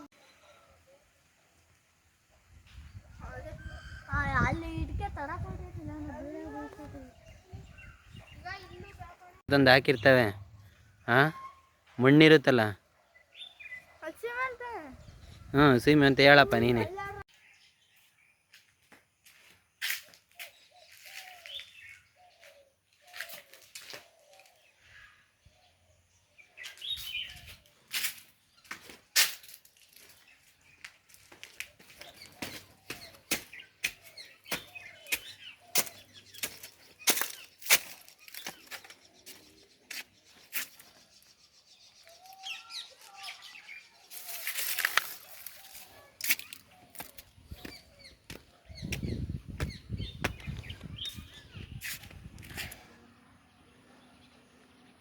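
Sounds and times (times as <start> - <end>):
birds chirping: 0.0 - 29.2, 29.8 - 55.0.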